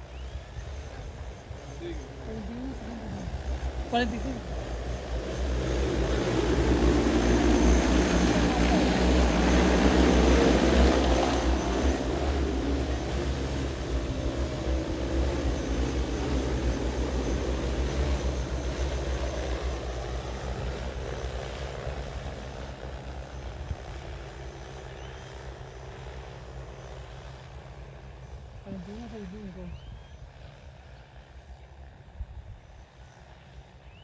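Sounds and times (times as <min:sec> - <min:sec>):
drone rotors droning: 0:00.0 - 0:30.3.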